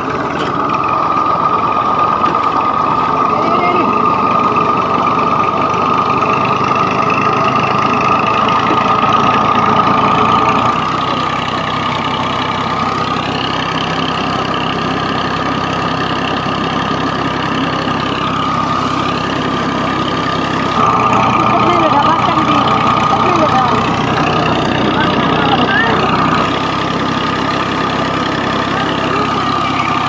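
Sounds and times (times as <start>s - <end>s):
diesel engine running: 0.0s - 30.0s
steady high whine: 0.0s - 30.0s.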